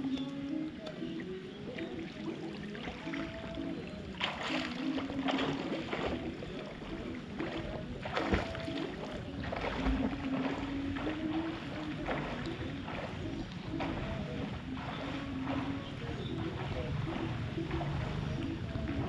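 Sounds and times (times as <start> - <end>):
pool water lapping and splashing: 0.0 - 19.0.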